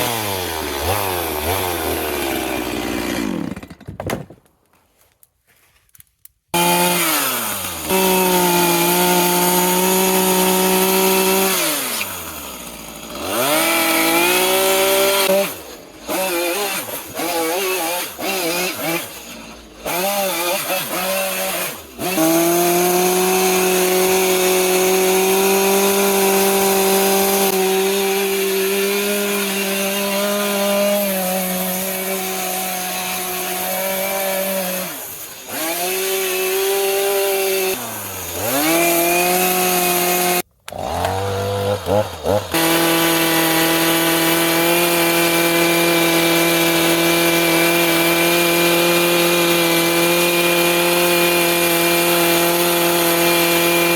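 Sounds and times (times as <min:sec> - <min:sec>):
chainsaw cutting wood: 0:00.0 - 0:04.5, 0:06.5 - 0:53.9.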